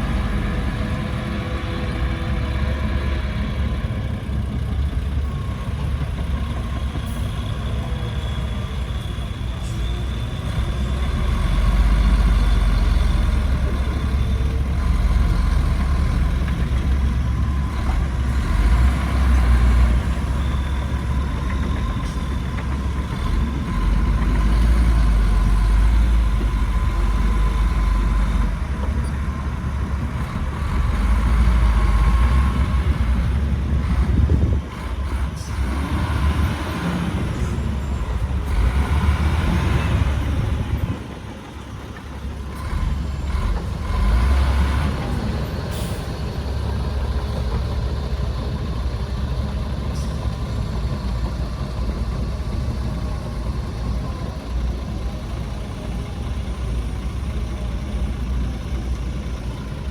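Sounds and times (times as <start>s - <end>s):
heavy diesel engines rumbling: 0.0s - 59.9s.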